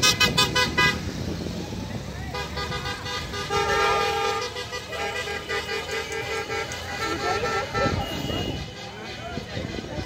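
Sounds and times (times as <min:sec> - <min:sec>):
vehicle horn honking: 0:00.0 - 0:01.1, 0:02.3 - 0:09.8.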